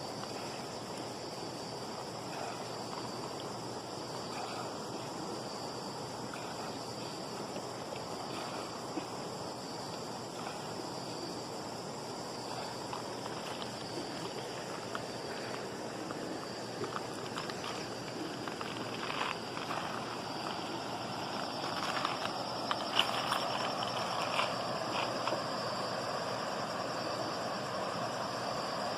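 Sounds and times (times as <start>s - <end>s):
high-pitched insect drone: 0.0s - 28.9s
river water flowing: 0.0s - 28.9s.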